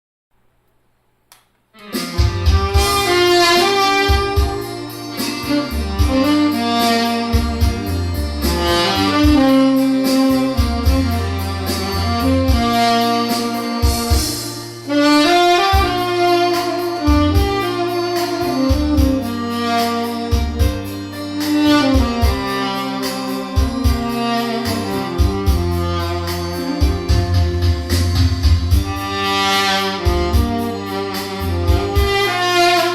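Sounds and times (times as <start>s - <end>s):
backing track with bass and drums: 1.8s - 32.9s
tenor saxophone melody: 1.8s - 32.9s.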